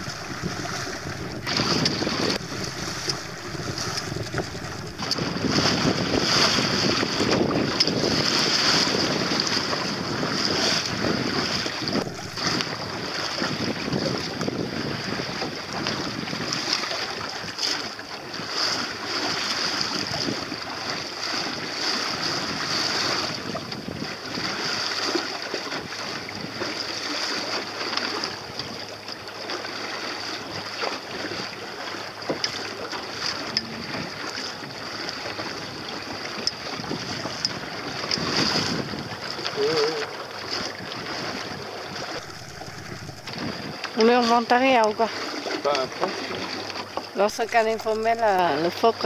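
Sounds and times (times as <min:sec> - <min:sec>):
wind buffeting microphone: 0:00.0 - 0:25.1, 0:25.7 - 0:26.8, 0:33.2 - 0:49.0
wind and water rushing: 0:00.0 - 0:49.0.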